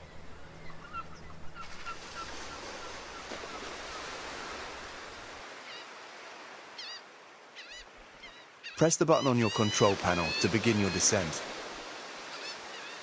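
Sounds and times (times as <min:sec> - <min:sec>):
seabirds calling: 0:00.0 - 0:13.0
waves washing: 0:01.4 - 0:13.0.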